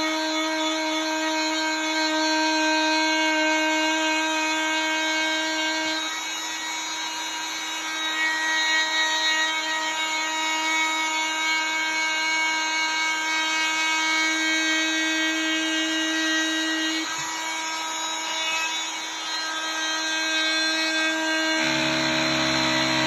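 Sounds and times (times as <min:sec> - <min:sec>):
oscillating multi-tool buzzing: 0:00.0 - 0:23.0.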